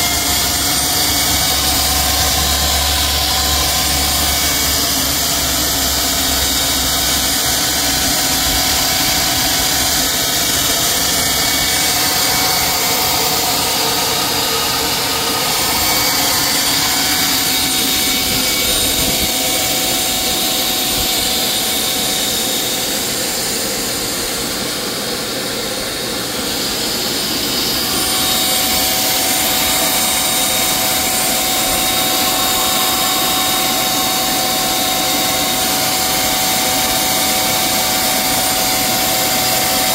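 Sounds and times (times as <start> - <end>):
microturbine whining: 0.0 - 39.9.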